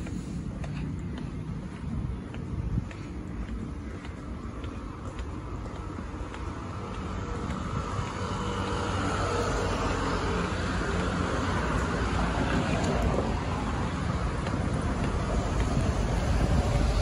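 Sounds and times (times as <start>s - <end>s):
city road traffic: 0.0s - 17.0s
vehicle approaching: 0.0s - 17.0s.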